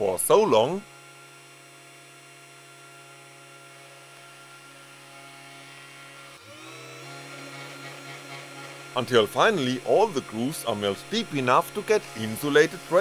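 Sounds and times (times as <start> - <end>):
milling machine spindle motor hum: 0.0 - 13.0.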